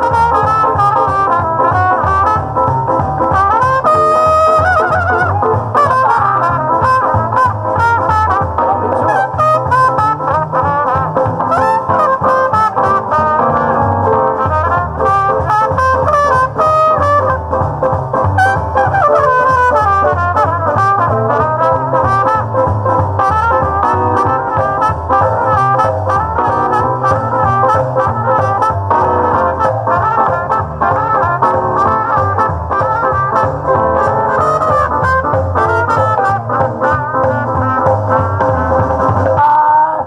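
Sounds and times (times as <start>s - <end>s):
bass: 0.0s - 40.0s
swing band playing: 0.0s - 40.0s
trumpet solo: 0.0s - 40.0s.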